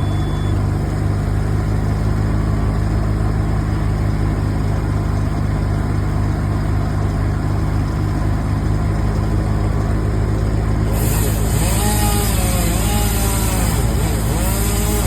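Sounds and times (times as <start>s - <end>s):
large engine running steadily: 0.0s - 15.0s.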